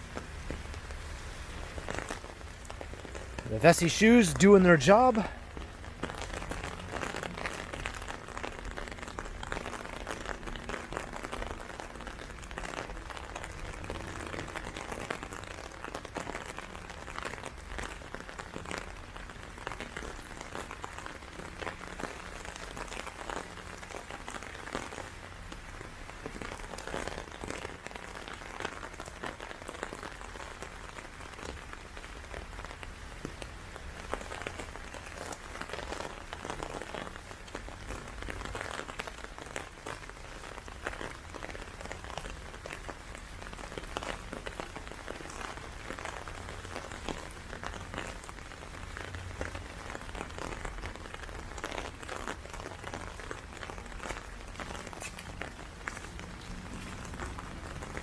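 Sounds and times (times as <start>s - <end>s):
hard rain falling: 0.0s - 58.0s.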